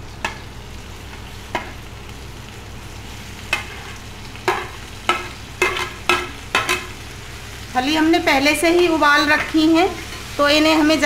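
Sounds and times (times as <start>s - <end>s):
oil frying hiss: 0.0s - 11.0s.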